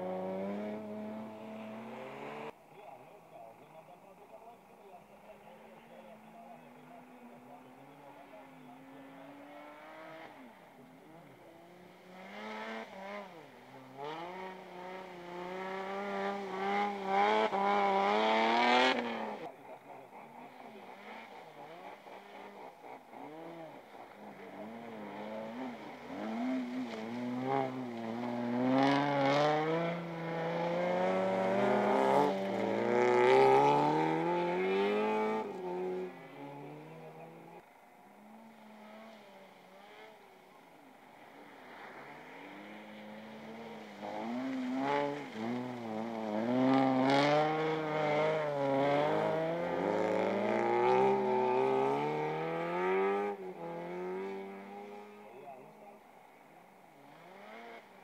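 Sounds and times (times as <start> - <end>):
car engine revving through gears: 0.0 - 2.6, 6.1 - 19.5, 20.1 - 40.3, 41.5 - 55.9, 57.0 - 58.0.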